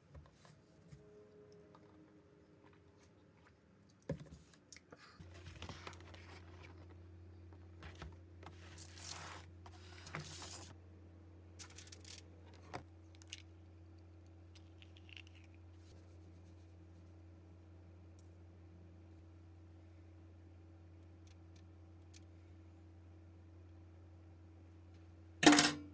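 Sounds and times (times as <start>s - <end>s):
steady low hum: 4.3s - 25.9s.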